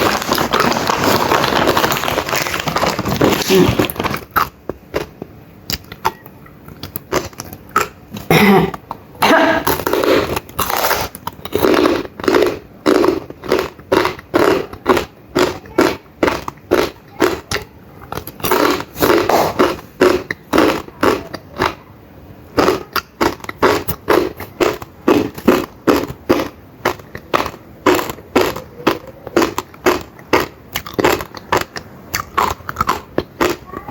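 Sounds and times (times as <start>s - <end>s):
crunchy chewing: 0.0s - 21.8s, 22.6s - 33.9s.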